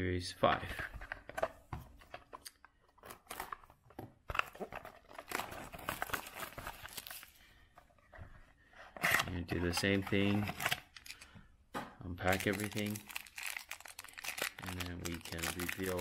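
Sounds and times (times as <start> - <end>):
cards rustling and scraping: 0.8 - 11.3, 12.3 - 16.0.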